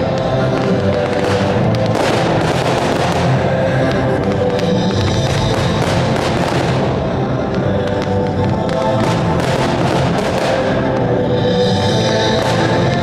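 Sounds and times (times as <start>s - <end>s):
fireworks crackling and popping: 0.0s - 13.0s
music playing: 0.0s - 13.0s.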